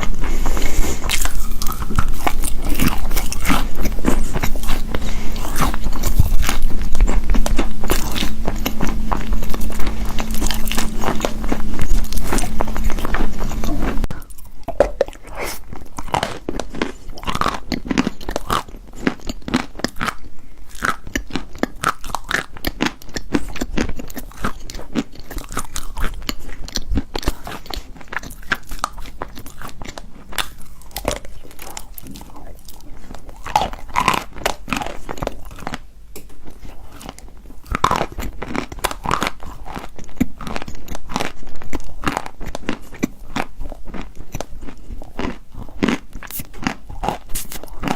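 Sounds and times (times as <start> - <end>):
chewing chalk crunches: 0.0 - 47.9.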